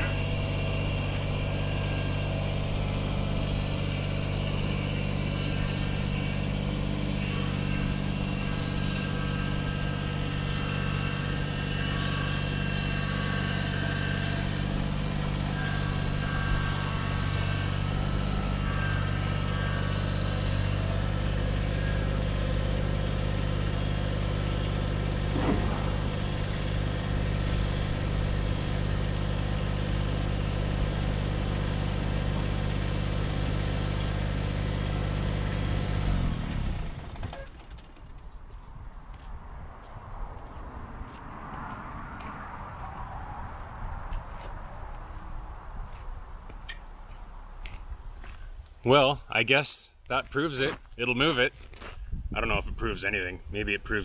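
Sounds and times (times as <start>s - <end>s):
tractor diesel engine running: 0.0s - 49.4s.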